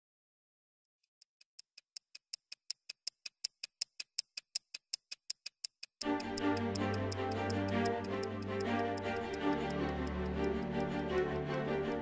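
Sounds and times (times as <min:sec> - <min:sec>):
watch ticking: 0:01.1 - 0:12.0.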